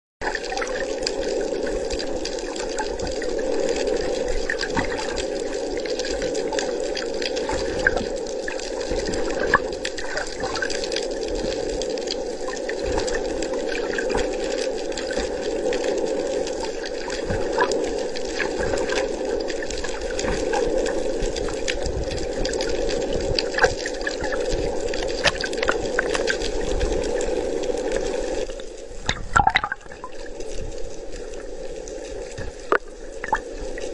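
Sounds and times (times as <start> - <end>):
small clicks and ticks: 0.2 - 33.9
underwater water rushing: 0.2 - 33.9.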